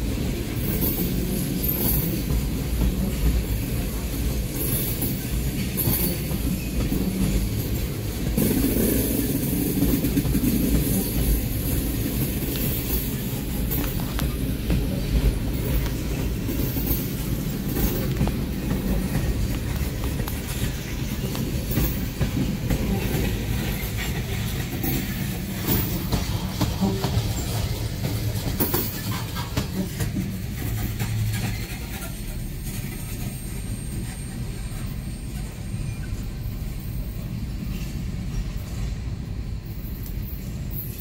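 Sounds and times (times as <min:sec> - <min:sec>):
train wheels clacking over rail joints: 0:00.0 - 0:35.0
low train rumble: 0:00.0 - 0:41.0.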